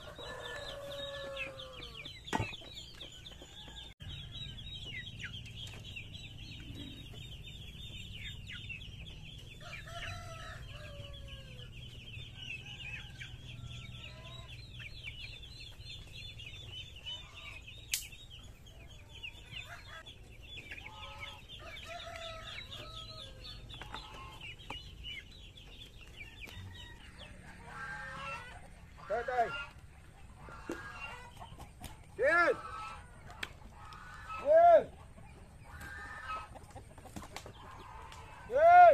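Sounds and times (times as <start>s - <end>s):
chickens clucking: 0.0s - 38.9s
chicks peeping: 0.0s - 38.9s.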